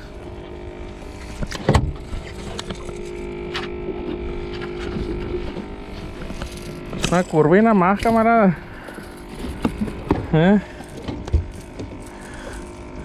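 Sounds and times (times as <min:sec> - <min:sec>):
boat motor hum: 0:00.0 - 0:13.0.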